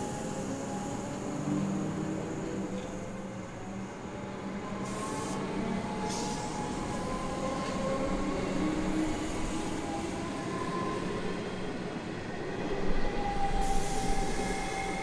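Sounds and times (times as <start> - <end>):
electric train hum and whine: 0.0 - 15.0.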